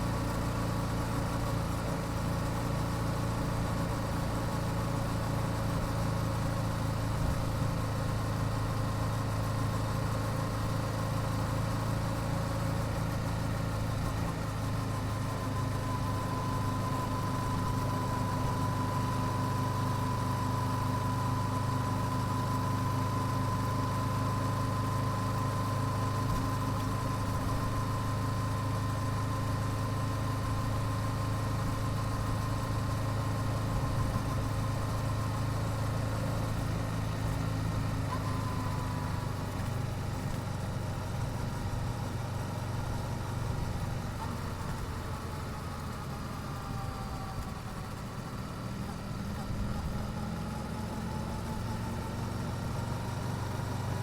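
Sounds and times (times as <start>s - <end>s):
motorcycle engine running steadily: 0.0s - 54.0s.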